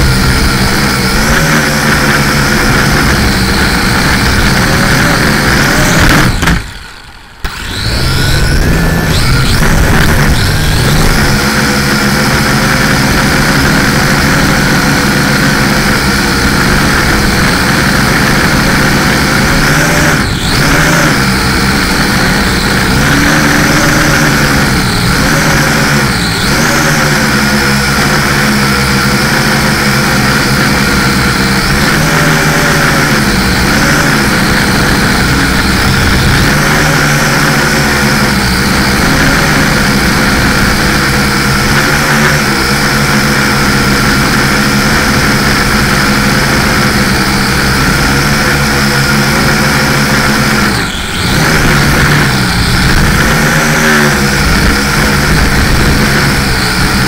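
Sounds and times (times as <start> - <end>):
quadcopter propellers buzzing: 0.0 - 57.0.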